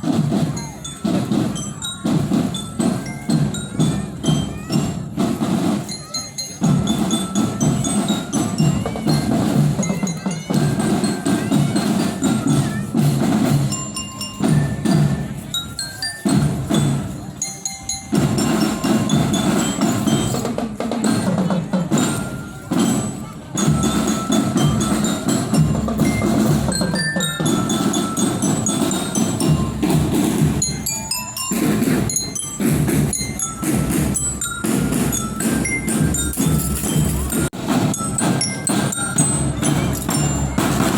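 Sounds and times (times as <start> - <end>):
bell lyra melody: 0.0 - 40.9
marching drums beating: 0.0 - 40.9.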